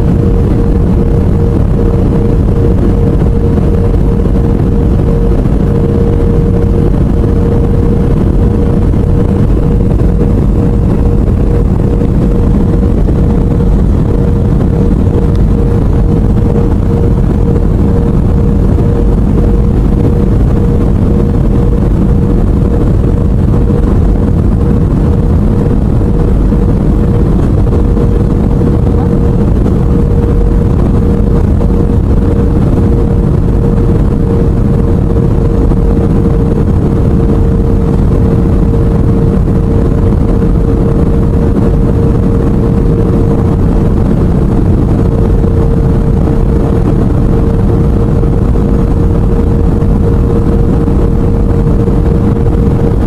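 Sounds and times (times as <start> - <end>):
constant hum: 0.0 - 53.0
jet engine and airflow roar: 0.0 - 53.0.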